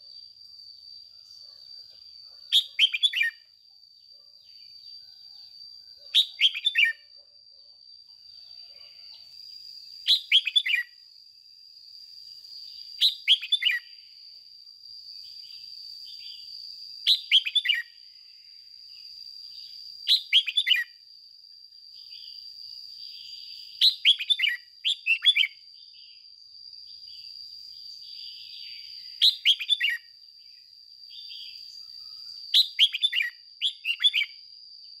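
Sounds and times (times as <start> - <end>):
bird singing: 0.0 - 7.1, 8.2 - 11.1, 12.2 - 14.3, 15.1 - 21.0, 21.9 - 35.0.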